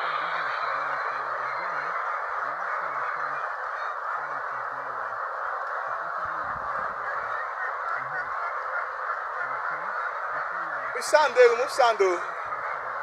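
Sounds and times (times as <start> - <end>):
chickens clucking and squawking: 0.0 - 13.0
low voices murmuring: 0.0 - 13.0.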